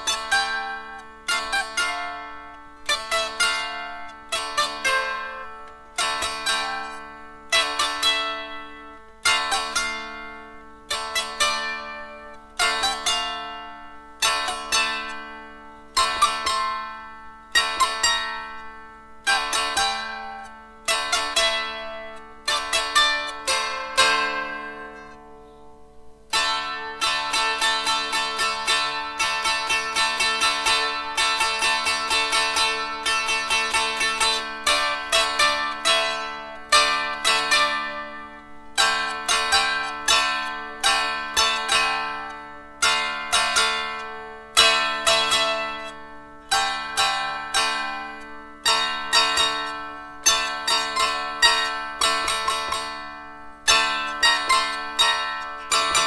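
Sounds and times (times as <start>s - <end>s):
dulcimer strumming: 0.0s - 56.0s.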